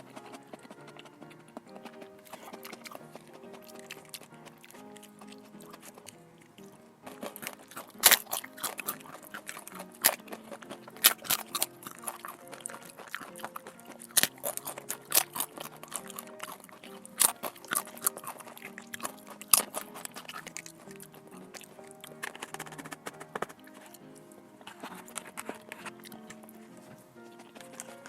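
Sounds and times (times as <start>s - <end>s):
crunching and chewing crisp food: 0.0s - 28.0s
soft background music: 0.0s - 28.0s.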